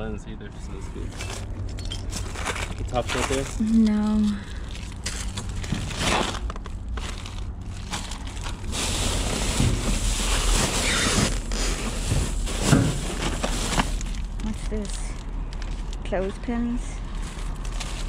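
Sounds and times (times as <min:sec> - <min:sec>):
plastic trash bags rustling: 0:01.1 - 0:18.0.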